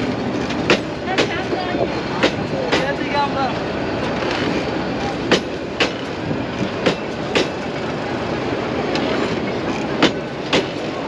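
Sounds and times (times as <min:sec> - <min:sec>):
wheel clacks over rail joints: 0:00.0 - 0:07.7, 0:08.9 - 0:11.0
train steady rumble: 0:00.0 - 0:11.0.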